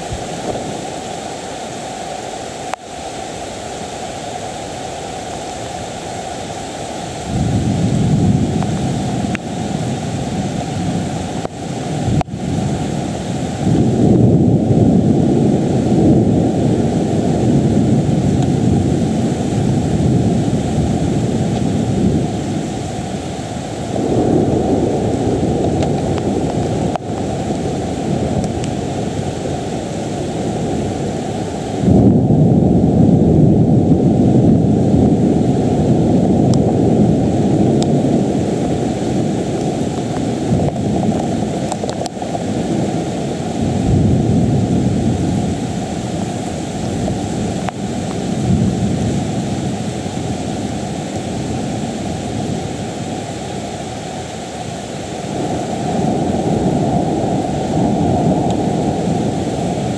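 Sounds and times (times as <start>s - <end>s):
steady rain: 0.0s - 59.9s
thunder rumbling: 7.1s - 53.6s, 55.0s - 59.9s.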